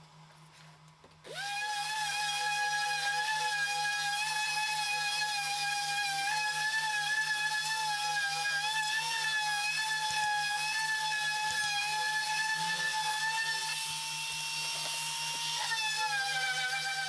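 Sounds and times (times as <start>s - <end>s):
orbital sander whine: 1.3s - 17.0s.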